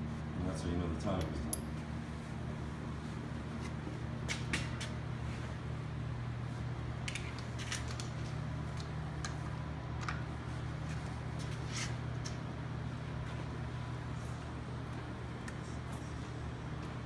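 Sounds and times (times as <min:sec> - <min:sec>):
low workshop hum: 0:00.0 - 0:17.0.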